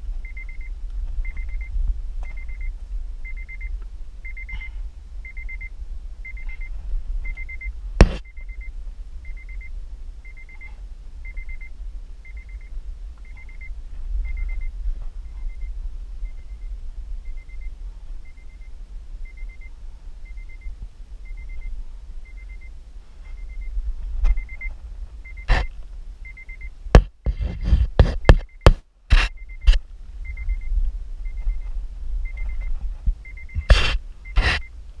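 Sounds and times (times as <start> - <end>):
low steady rumble: 0.0 - 35.0
car warning chime beeping: 0.2 - 26.8, 28.2 - 34.8.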